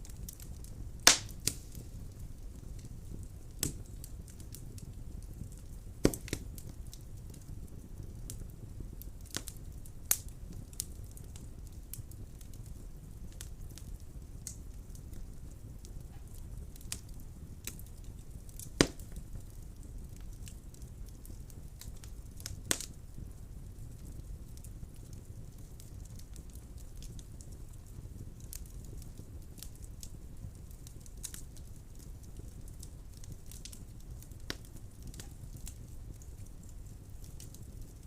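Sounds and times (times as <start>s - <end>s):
fire crackling and popping: 0.0s - 38.0s
fire flames rumbling: 0.0s - 38.0s.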